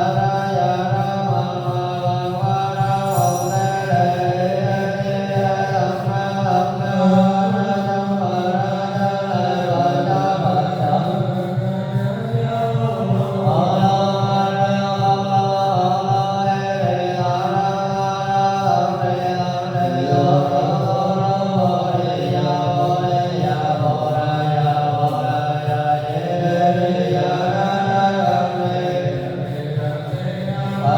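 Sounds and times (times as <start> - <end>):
voices chanting: 0.0 - 30.9.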